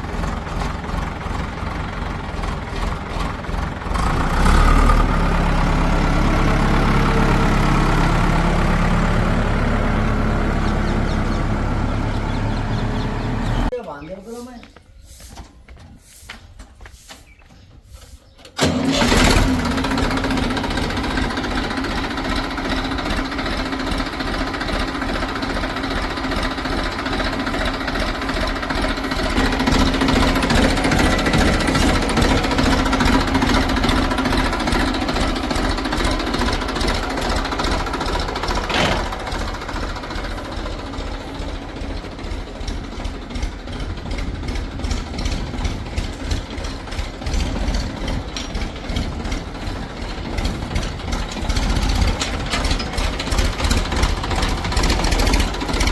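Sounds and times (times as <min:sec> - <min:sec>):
diesel engine clattering: 0:00.0 - 0:14.6, 0:18.4 - 0:55.9.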